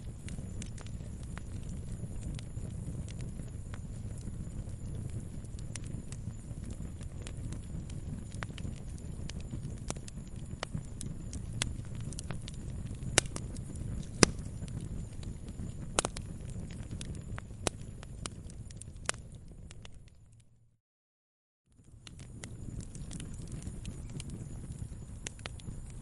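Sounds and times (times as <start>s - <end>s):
fire crackles and pops: 0.0s - 20.5s, 21.7s - 26.0s
low rumble of flames: 0.0s - 20.7s, 21.7s - 26.0s.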